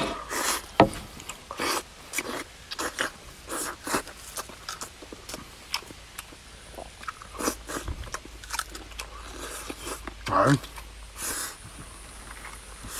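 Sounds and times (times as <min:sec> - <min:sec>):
person chewing meat: 0:00.2 - 0:12.9.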